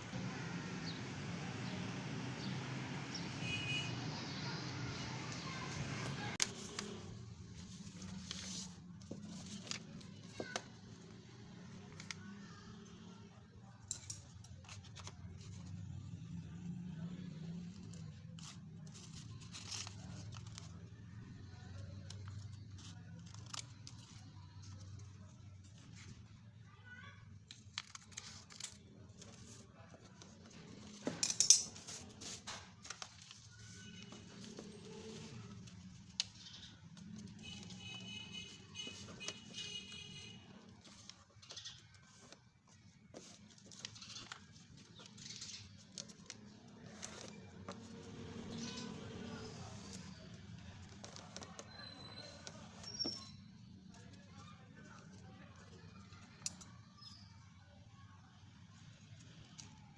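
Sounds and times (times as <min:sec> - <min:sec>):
paper crinkling and rustling: 0:05.5 - 0:16.1, 0:17.0 - 0:26.6, 0:27.3 - 0:57.2.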